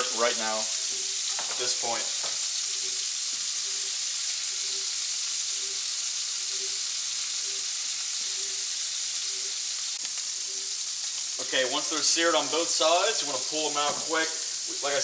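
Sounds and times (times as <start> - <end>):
meat sizzling in frying pan: 0.0 - 15.0.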